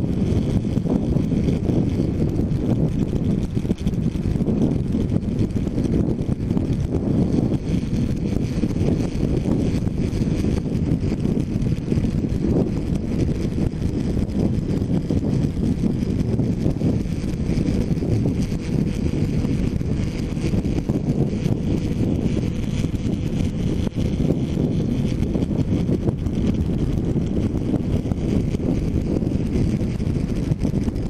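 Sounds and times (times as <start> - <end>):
motorcycle engine running: 0.0 - 31.0
wind buffeting camera: 0.0 - 31.0.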